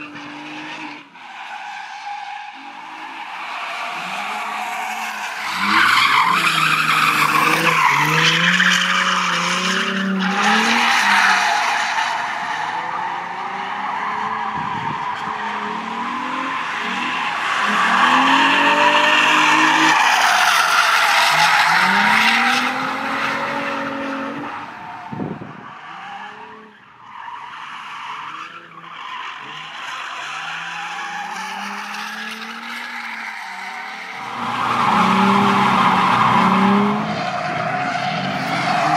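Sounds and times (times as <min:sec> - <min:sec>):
car engine revving: 0:02.5 - 0:26.8, 0:29.6 - 0:38.9.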